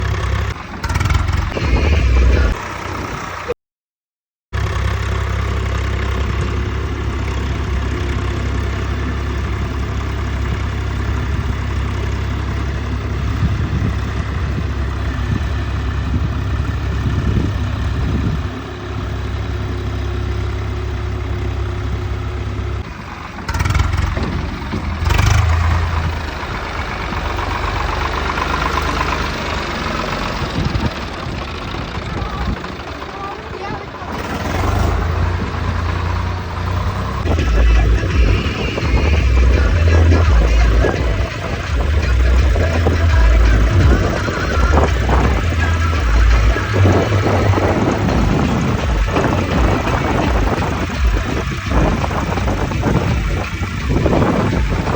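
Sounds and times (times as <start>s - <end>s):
tractor diesel engine idling: 0.0s - 3.6s, 4.6s - 54.9s.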